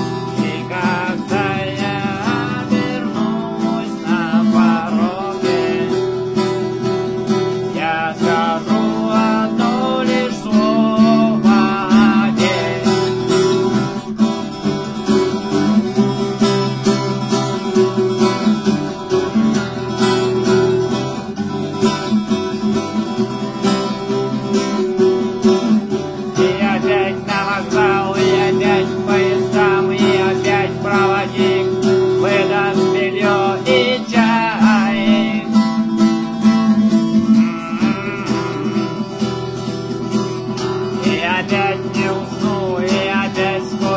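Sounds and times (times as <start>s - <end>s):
acoustic guitar music: 0.0s - 43.9s.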